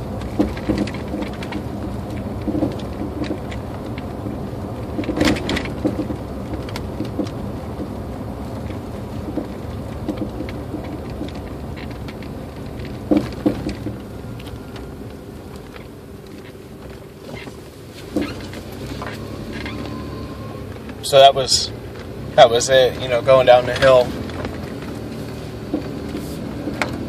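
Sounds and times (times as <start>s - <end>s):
road and tyre noise: 0.0s - 27.0s
suspension popping: 0.0s - 27.0s.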